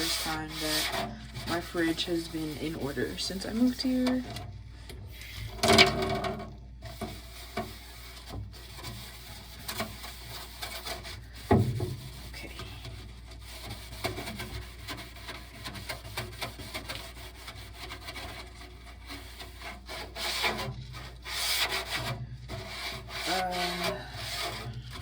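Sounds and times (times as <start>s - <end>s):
rubbing and scraping in fridge: 0.0s - 25.0s.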